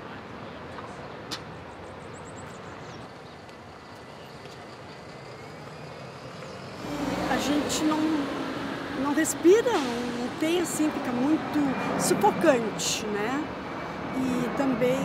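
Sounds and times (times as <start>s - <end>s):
distant city traffic hum: 0.0s - 15.0s.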